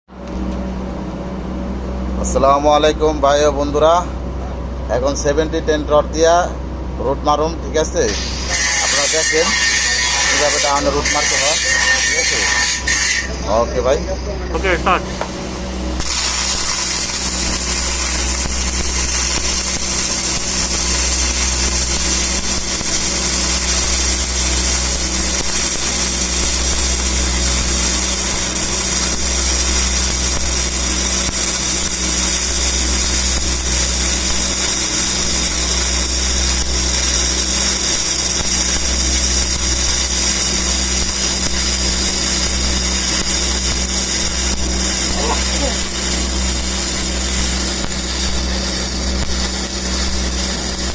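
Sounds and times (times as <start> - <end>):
constant low hum: 0.1 - 50.9
welding arc crackling hiss: 7.9 - 13.8, 14.6 - 50.9.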